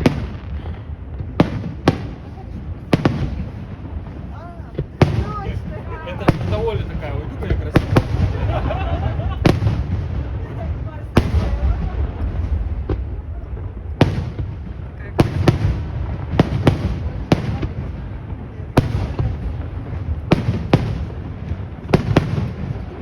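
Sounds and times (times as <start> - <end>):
fireworks bangs: 0.0 - 23.0
low rumble: 0.0 - 23.0.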